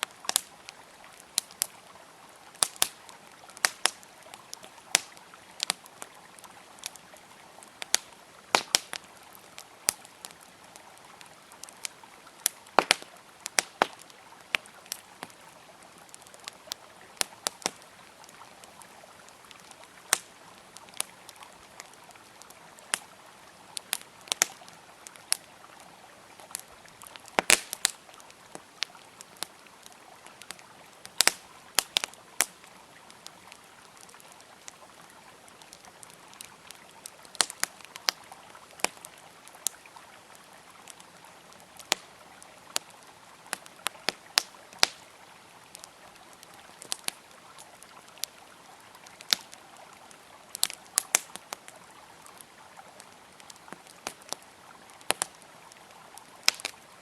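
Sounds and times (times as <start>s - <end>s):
campfire wood crackling and popping: 0.0s - 57.0s
river flowing: 0.0s - 57.0s.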